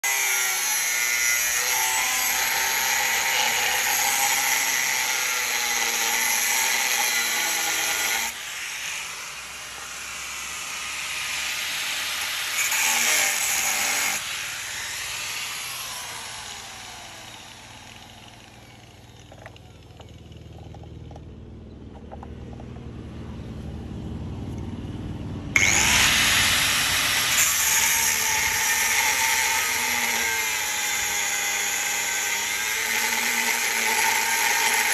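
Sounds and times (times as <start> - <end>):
power tool whine on steel: 0.0 - 21.2, 25.5 - 34.9.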